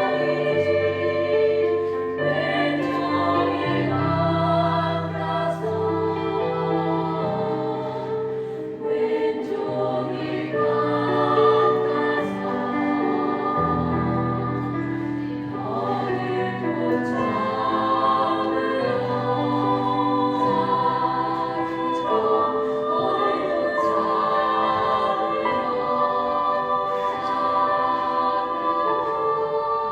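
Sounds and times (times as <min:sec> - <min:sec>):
choir singing: 0:00.0 - 0:29.9.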